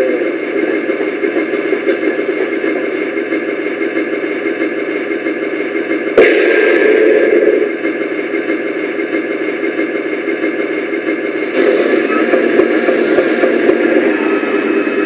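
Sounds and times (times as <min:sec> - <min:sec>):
simulated tank engine idling: 0:00.0 - 0:15.0.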